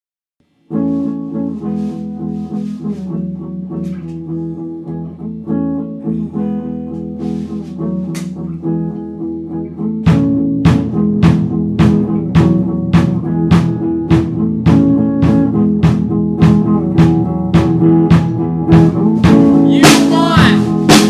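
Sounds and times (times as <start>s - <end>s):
plucked guitar: 0.4s - 21.0s.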